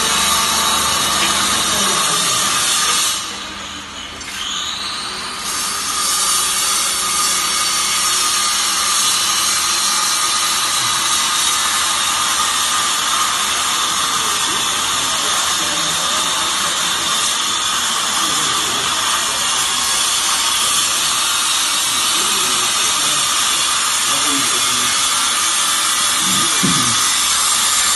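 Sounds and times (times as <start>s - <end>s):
hydraulic power unit motor whine: 0.0s - 24.4s, 25.0s - 27.9s
constant hydraulic hiss: 0.0s - 27.9s.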